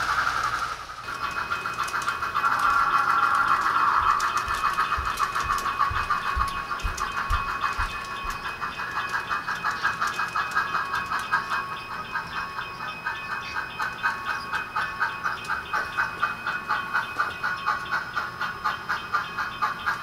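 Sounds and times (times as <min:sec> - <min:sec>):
model steam locomotive chuffing: 0:00.0 - 0:20.0
model wheels clicking on track: 0:00.0 - 0:20.0.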